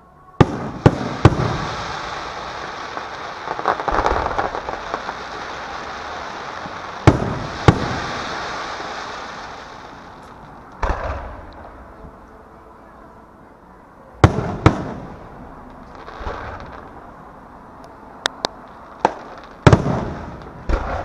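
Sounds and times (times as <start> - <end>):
fireworks bangs: 0.4 - 12.0, 14.2 - 17.2, 18.6 - 21.0
fireworks crackling: 0.4 - 12.0, 14.2 - 21.0.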